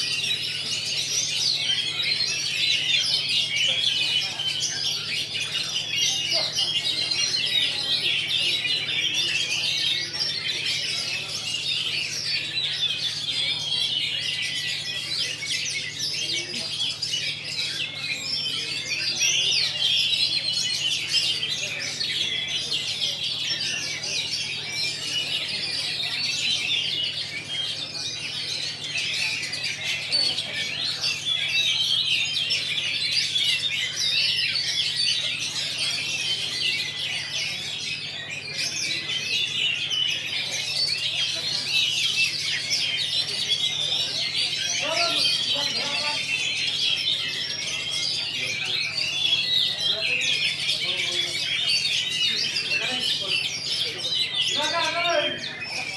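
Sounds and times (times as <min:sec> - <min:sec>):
songbirds chirping and whistling: 0:00.0 - 0:55.9.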